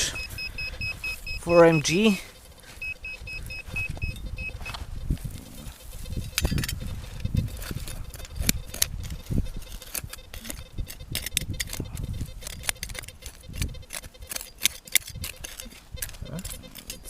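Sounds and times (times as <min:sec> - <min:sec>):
low rumbling: 0:00.0 - 0:14.2
rusted metal clinking: 0:00.0 - 0:17.0.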